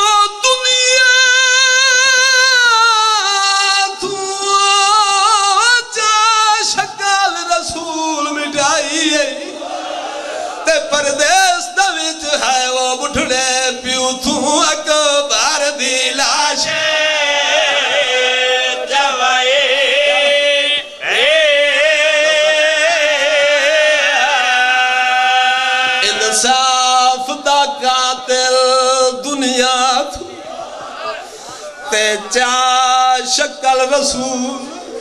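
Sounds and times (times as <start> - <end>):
man chanting through microphone: 0.0 - 9.7, 10.5 - 35.0.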